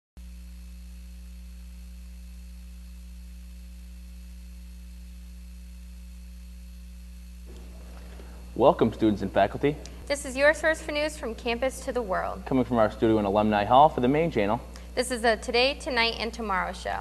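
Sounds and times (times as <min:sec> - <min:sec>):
electrical mains hum: 0:00.2 - 0:17.0.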